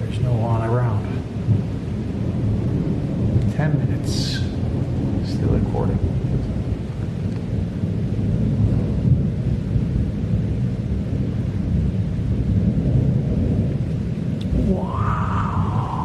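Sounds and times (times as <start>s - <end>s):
rain hiss: 0.0s - 16.0s
thunder rumbling: 0.0s - 16.0s.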